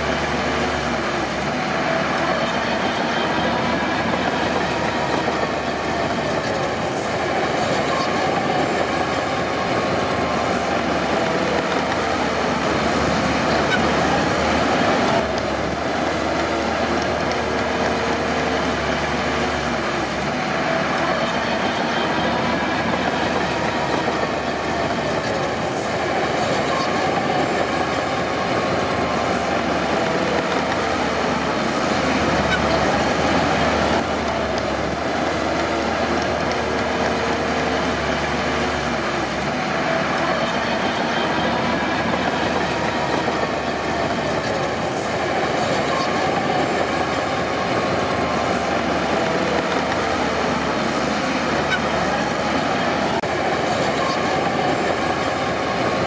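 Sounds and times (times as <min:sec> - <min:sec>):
bulldozer diesel engine running: 0:00.0 - 0:56.0
steel tracks clanking and squealing: 0:00.0 - 0:56.0.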